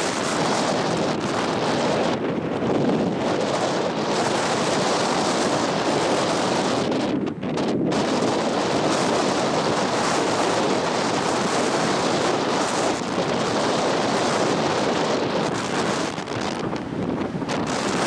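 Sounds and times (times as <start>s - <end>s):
surf: 0.0s - 18.0s
wind buffeting microphone: 0.0s - 18.0s.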